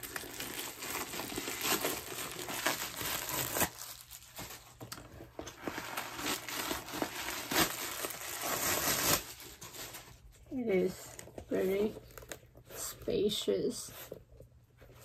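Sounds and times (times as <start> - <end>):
packing stuffing crinkling: 0.0 - 12.6.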